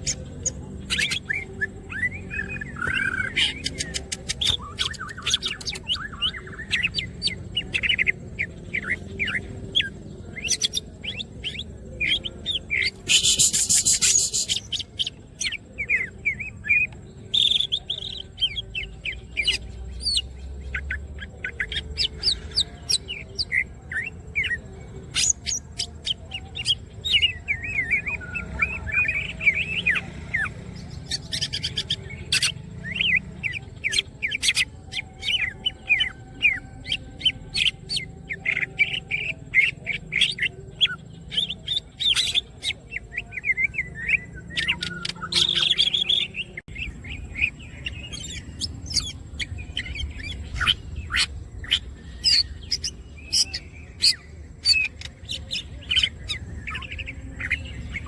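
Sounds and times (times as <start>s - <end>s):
bird singing chirps and trills: 0.0s - 58.0s.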